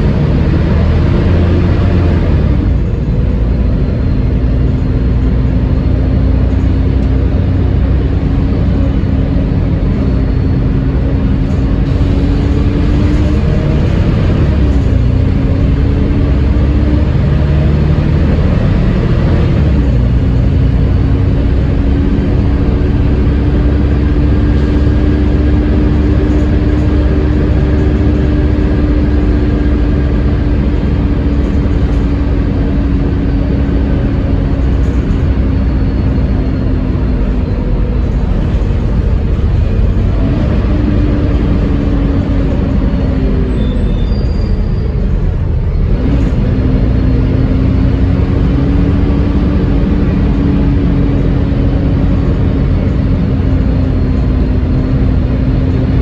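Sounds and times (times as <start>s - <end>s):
bus engine whining: 0.0s - 56.0s.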